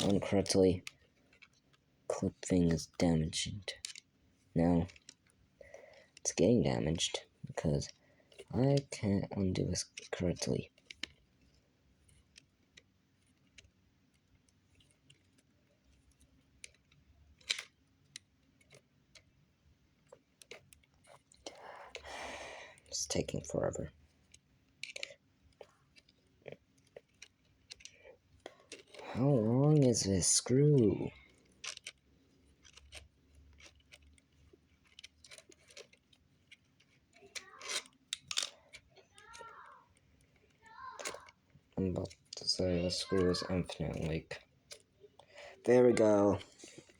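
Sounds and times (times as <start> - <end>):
small screw clicking in plastic: 0.0 - 1.8, 3.7 - 4.1, 4.8 - 6.6, 9.8 - 29.9, 30.6 - 46.9.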